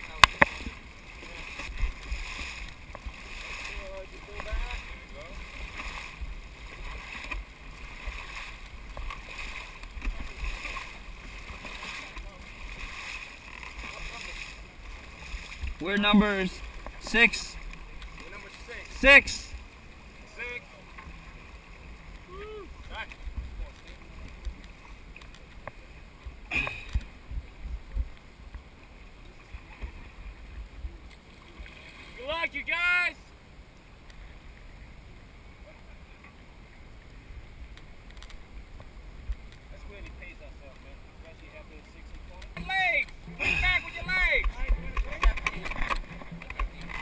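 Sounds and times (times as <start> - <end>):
paddles splashing in water: 0.0 - 47.0.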